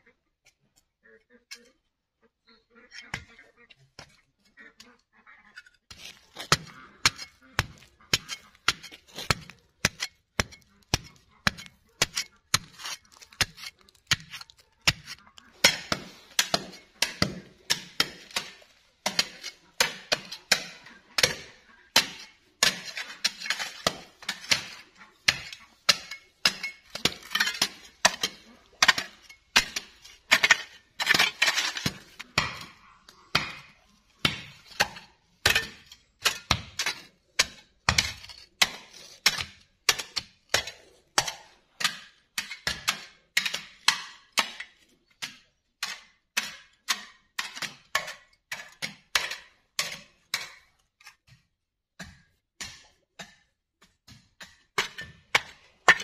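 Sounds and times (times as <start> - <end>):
steel bar striking stony soil: 5.6 - 51.4, 52.0 - 56.0.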